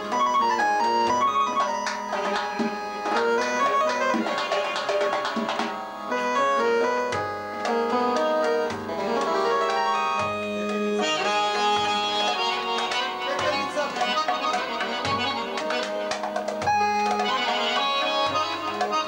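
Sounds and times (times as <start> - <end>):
button accordion folk dance tune: 0.0 - 19.0
hand drum beating: 0.2 - 6.0, 7.1 - 19.0.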